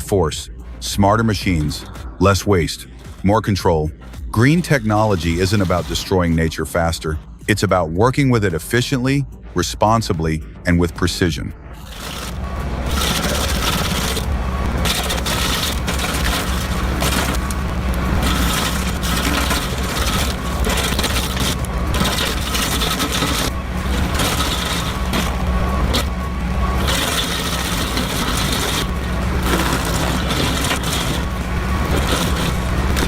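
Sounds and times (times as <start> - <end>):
heavy machine engine running: 0.0 - 7.7, 11.6 - 33.0
wood scraping and grinding: 0.0 - 8.8, 11.8 - 33.0.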